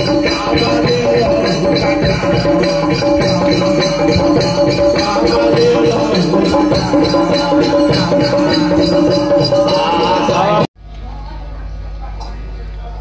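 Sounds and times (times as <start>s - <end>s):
fast shaker rhythm: 0.0s - 10.7s.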